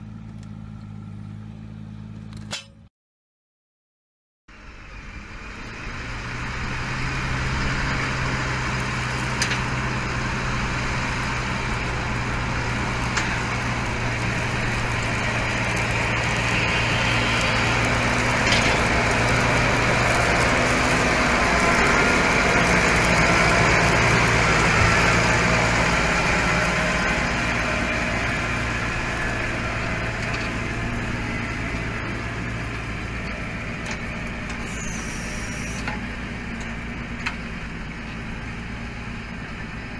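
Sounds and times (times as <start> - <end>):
machine engine humming: 4.6 - 39.9
machine working noise: 6.8 - 39.9.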